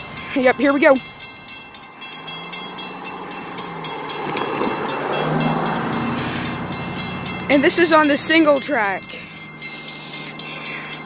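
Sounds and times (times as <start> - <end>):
crossing warning bell ringing: 0.0 - 11.0.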